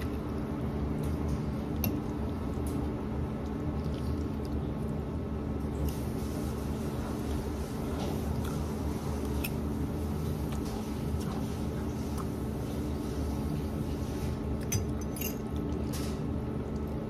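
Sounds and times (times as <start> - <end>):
kitchen equipment humming: 0.0 - 17.0.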